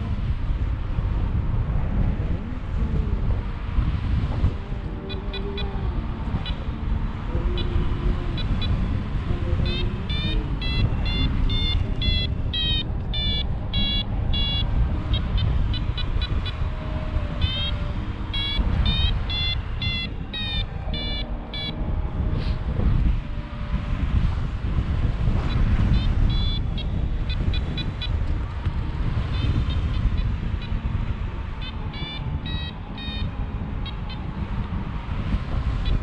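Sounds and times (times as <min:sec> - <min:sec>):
wind buffeting microphone: 0:00.0 - 0:36.0
variometer beeping: 0:04.4 - 0:24.8, 0:25.5 - 0:35.0, 0:35.8 - 0:36.0.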